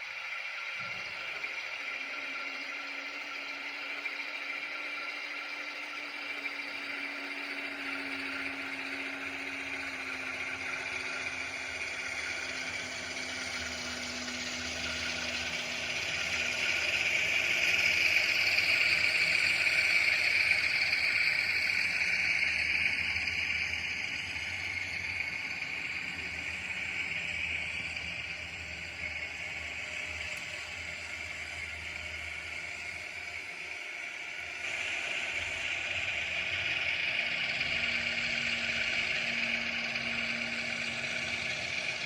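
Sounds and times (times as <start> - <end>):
model train running on track: 0.0 - 42.0.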